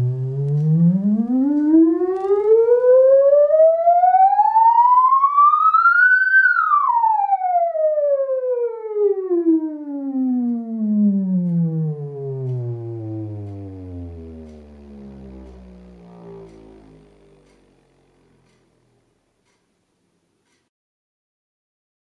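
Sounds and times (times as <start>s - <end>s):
sine tone sweep: 0.0s - 8.0s, 9.4s - 19.2s.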